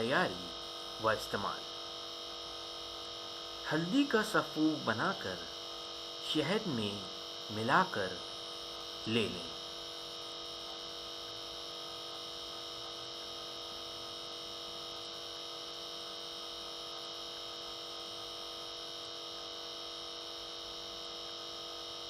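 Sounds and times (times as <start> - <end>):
electrical hum with hiss: 0.0 - 22.0.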